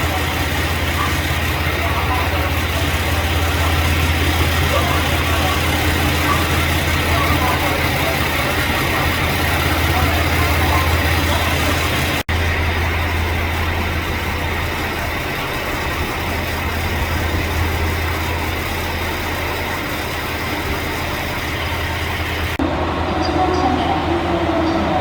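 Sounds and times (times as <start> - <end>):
diesel railcar engine drone: 0.0 - 25.0.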